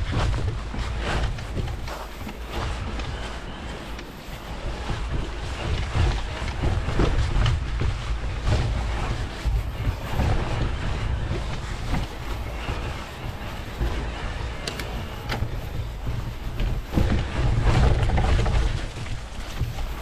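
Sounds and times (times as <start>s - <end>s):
bike tyres rolling on trail: 0.0s - 20.0s
wind buffeting microphone: 0.0s - 20.0s.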